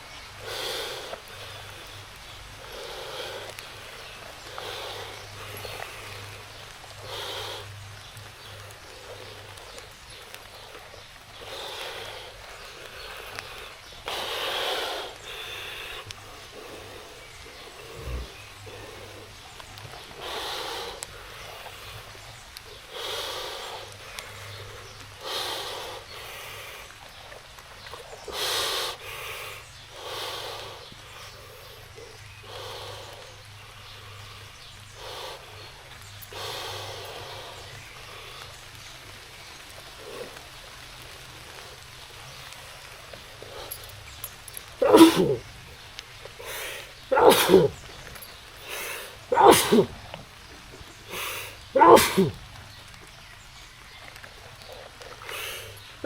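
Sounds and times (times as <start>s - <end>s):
heavy rain: 0.0s - 56.0s
person breathing heavily: 0.4s - 27.4s, 28.2s - 38.6s, 42.7s - 50.4s, 51.1s - 52.4s, 54.6s - 56.0s.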